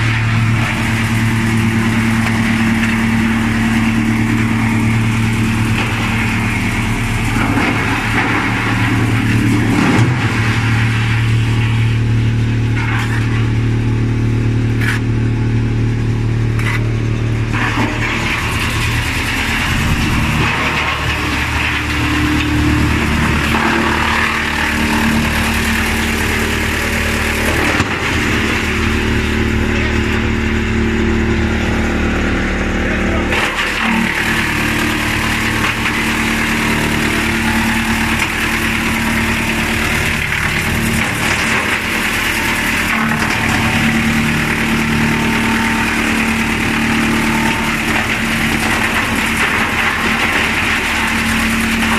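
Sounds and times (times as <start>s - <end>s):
wood chipper machine hum: 0.0s - 51.9s.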